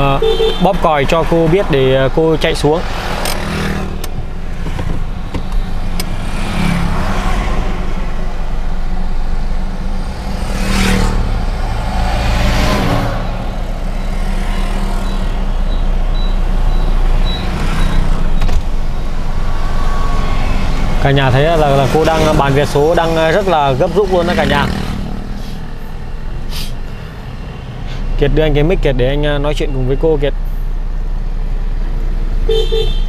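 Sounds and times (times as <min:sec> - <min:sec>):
motorbikes passing: 0:00.0 - 0:30.3
truck passing: 0:00.0 - 0:32.0
road traffic passing: 0:00.0 - 0:33.0
low engine hum: 0:00.8 - 0:33.0.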